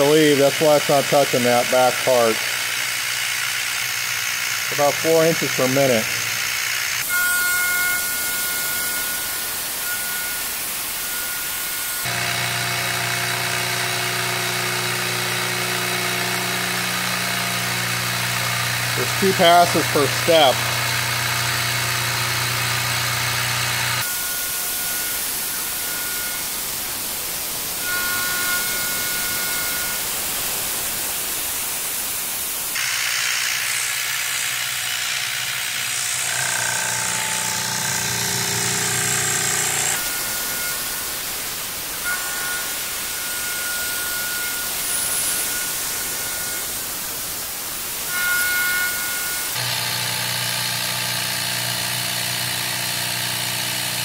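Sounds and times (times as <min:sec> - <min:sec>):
milling machine cutting metal: 0:00.0 - 0:54.0
thin steady cutting tone: 0:00.0 - 0:54.0.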